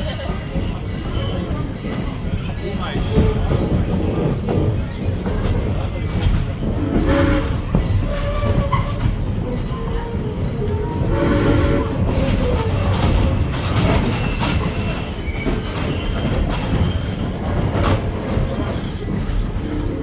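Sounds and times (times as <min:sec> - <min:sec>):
rail clicks: 0:00.0 - 0:20.0
train coach rumbling on track: 0:00.0 - 0:20.0.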